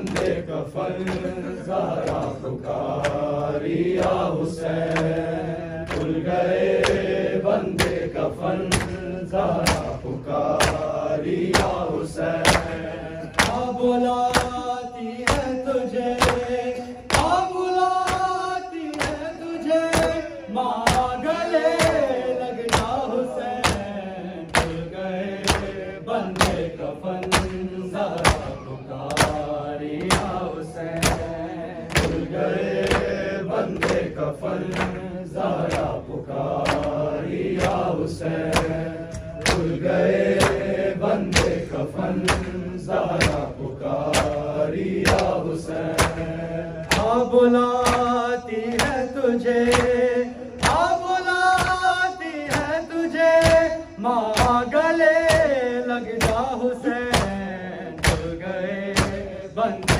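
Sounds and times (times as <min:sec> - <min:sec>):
palms slapping bare chests: 0:00.0 - 0:52.8, 0:53.4 - 0:59.9
men chanting: 0:00.0 - 0:59.9.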